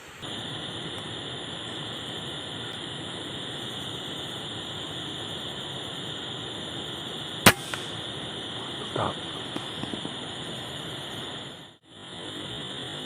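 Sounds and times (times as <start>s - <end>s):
cicadas buzzing: 0.0s - 13.0s
faint hiss: 0.0s - 13.0s.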